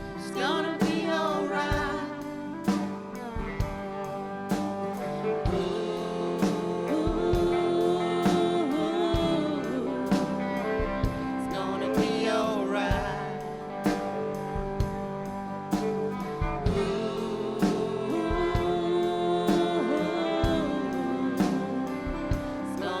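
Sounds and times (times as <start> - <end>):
drum strokes: 0.0 - 23.0
live band playing reggae: 0.0 - 23.0.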